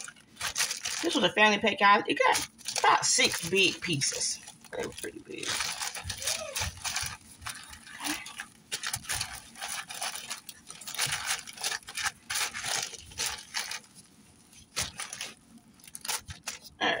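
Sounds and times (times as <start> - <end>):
plastic liner crinkling: 0.0 - 16.8.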